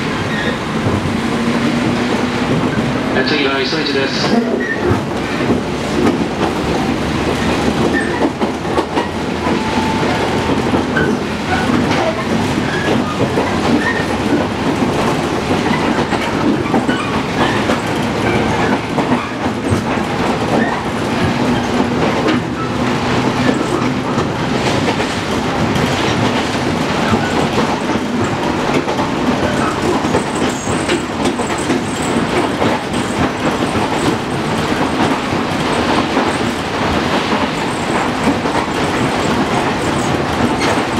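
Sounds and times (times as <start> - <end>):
rail joints clacking: 0.0 - 40.9
train wheels rumbling on rails: 0.0 - 40.9.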